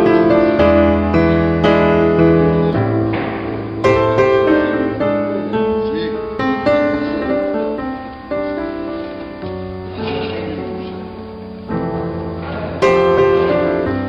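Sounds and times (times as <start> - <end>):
slow ringing chords: 0.0 - 14.0.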